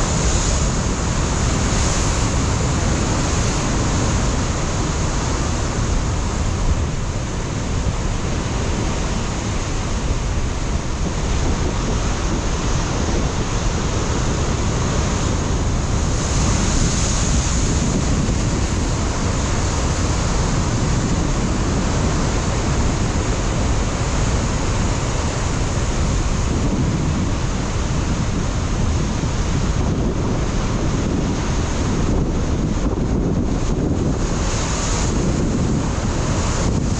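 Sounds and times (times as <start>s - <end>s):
ocean surf on rocky shore: 0.0s - 36.9s
wind buffeting microphone: 0.0s - 36.9s.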